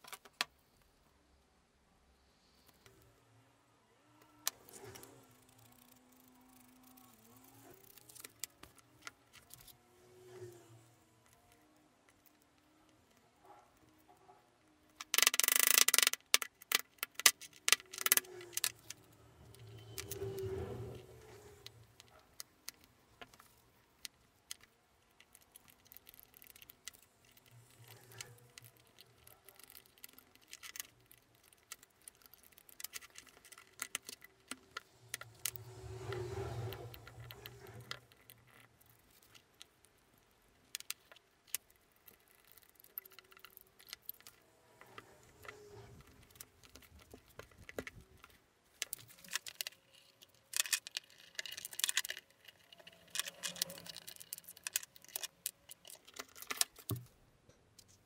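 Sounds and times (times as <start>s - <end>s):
small parts clicking on wood: 0.0s - 0.6s, 4.2s - 57.2s.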